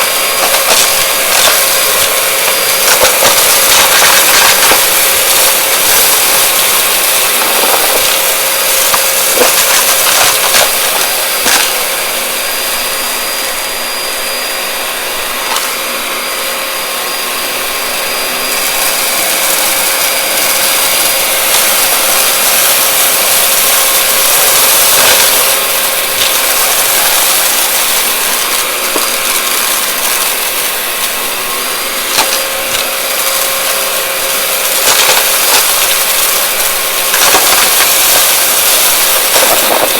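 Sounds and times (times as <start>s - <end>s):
debris rattling up nozzle: 0.0s - 12.8s, 15.3s - 15.8s, 19.7s - 39.9s
vacuum cleaner running: 0.0s - 39.9s.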